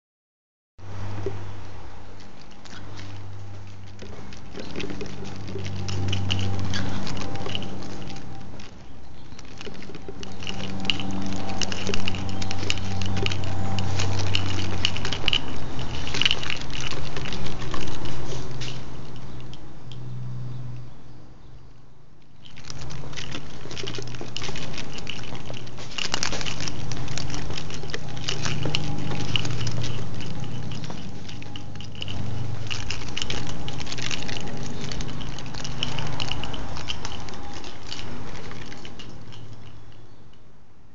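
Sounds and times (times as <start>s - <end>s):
steady low rumble: 0.8s - 40.9s
footsteps: 2.2s - 19.5s, 22.4s - 39.8s
pattering clicks: 2.2s - 20.1s, 22.2s - 40.4s.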